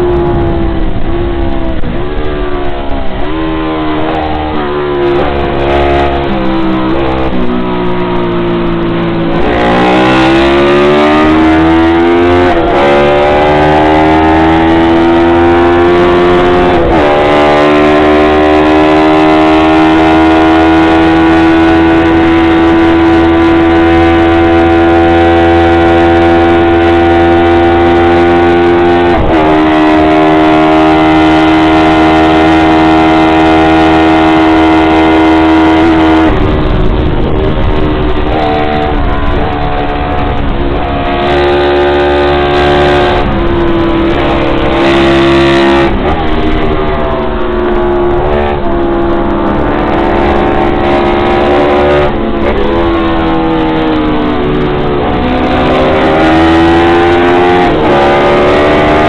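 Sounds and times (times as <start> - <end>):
race engine accelerating: 0.0 - 59.0.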